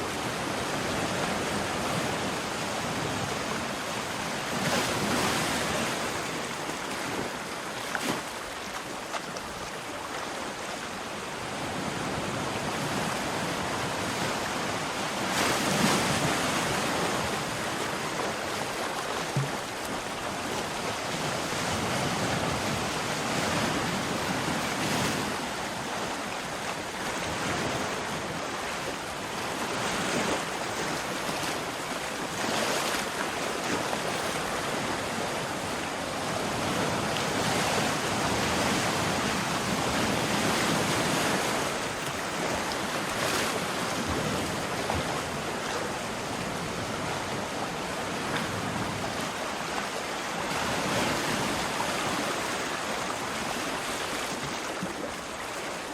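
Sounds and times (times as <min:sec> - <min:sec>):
sea waves breaking on shore: 0:00.0 - 0:55.9.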